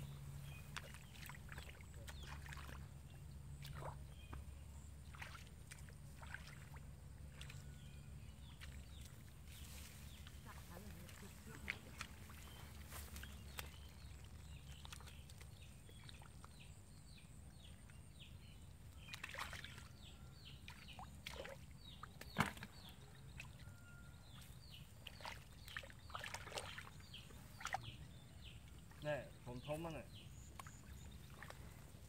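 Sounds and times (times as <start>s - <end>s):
water sloshing and splashing: 0.0s - 18.0s, 18.6s - 32.0s.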